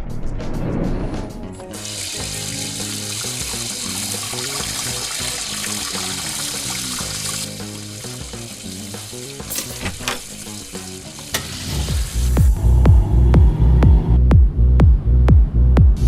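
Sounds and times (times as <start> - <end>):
background music low held notes: 1.0 - 16.0.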